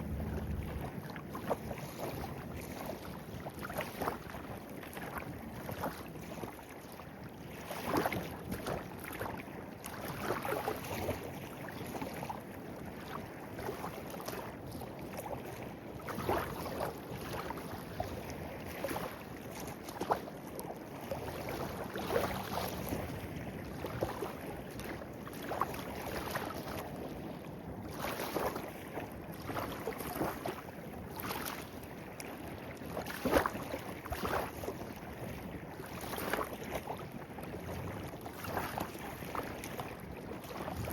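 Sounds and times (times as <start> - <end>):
water splashes and gurgles: 0.0 - 40.9.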